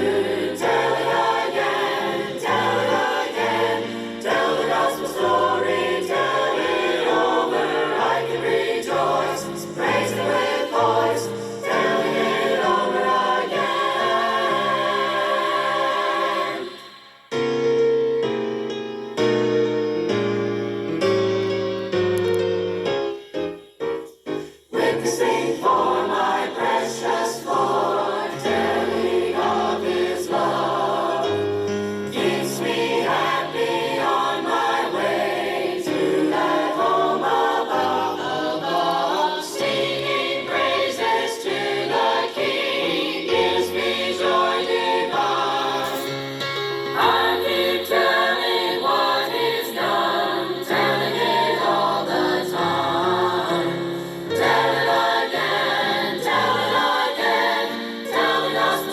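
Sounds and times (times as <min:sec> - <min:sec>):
choir singing gospel in harmony: 0:00.0 - 0:17.6, 0:24.6 - 0:58.9.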